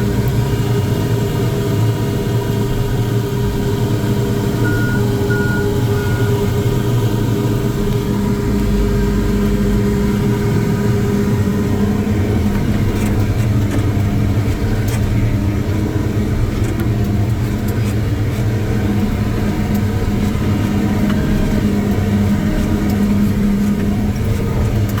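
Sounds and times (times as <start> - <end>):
diesel engine running: 0.0 - 25.0
faint clicks and rattles: 4.7 - 25.0.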